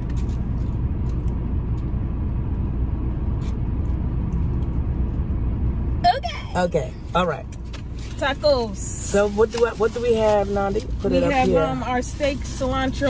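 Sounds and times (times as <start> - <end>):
air conditioning running: 0.0 - 13.0.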